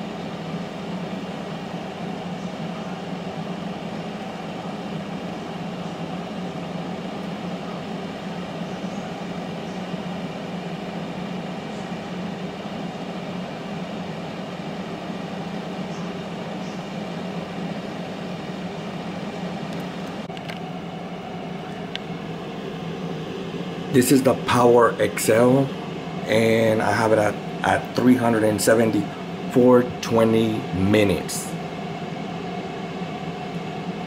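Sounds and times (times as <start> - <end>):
air fryer humming: 0.0 - 34.0.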